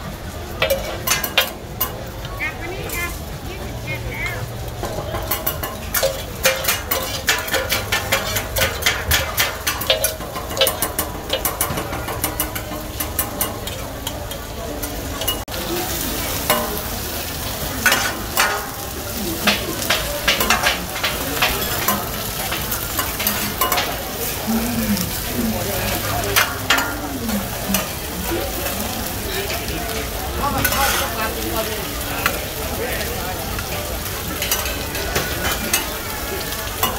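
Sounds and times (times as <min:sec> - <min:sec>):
eggs sizzling in hot oil: 0:00.0 - 0:36.9
ladles scraping on griddle: 0:00.0 - 0:36.9
metal utensils clinking on pan: 0:00.3 - 0:03.3, 0:04.7 - 0:36.9.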